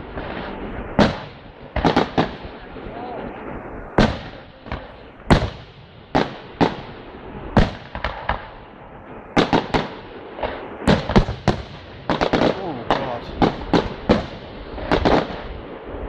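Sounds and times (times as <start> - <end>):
fireworks bursting with sharp bangs: 0.0 - 16.0.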